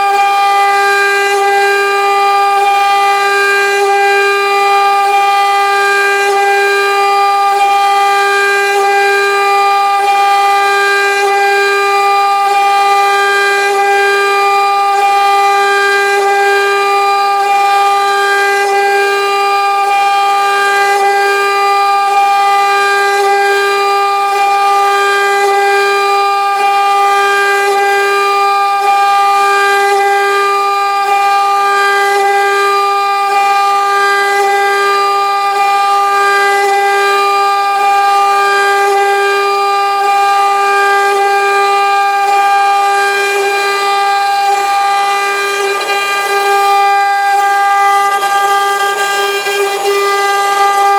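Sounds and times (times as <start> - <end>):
engraving machine spindle whine: 0.0 - 50.9.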